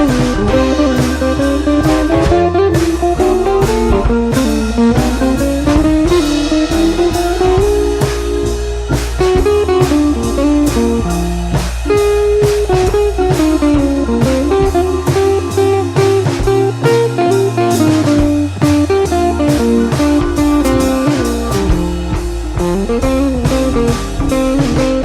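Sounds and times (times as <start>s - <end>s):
blues guitar music: 0.0s - 25.0s
drum kit beat: 0.0s - 25.0s.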